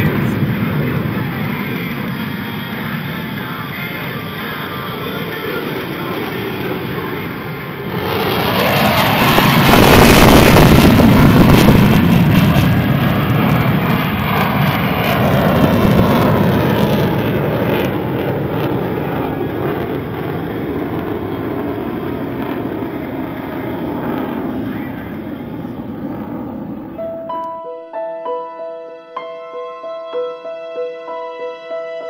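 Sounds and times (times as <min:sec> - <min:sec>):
fighter jet flying past: 0:00.0 - 0:27.3.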